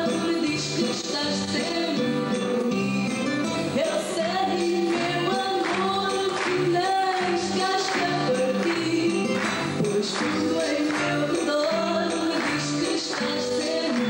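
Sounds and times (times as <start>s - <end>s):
woman singing into microphone: 0.0s - 14.0s
percussion strikes: 2.4s - 14.0s.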